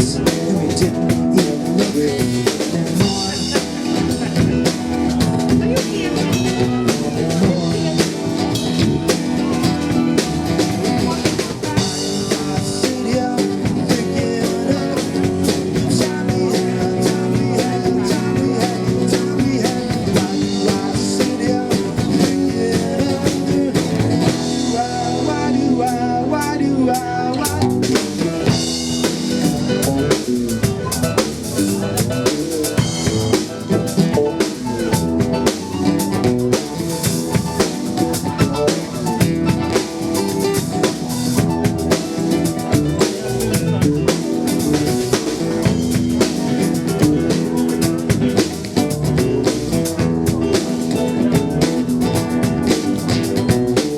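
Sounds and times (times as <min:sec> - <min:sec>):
drum kit beating: 0:00.0 - 0:53.9
guitar playing: 0:00.0 - 0:53.9.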